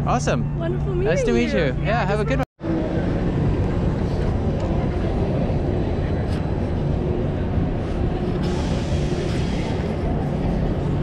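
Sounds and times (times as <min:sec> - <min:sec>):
low rumble of city noise: 0:00.0 - 0:11.0.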